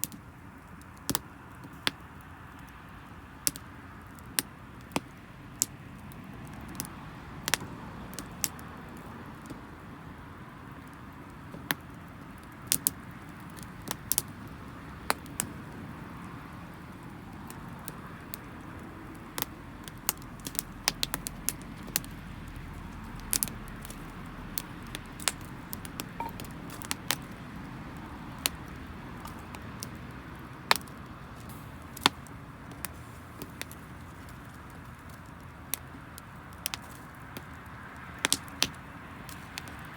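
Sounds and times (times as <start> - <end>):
wood fire crackling and popping: 0.0 - 39.9
low rush of burning: 0.3 - 39.9.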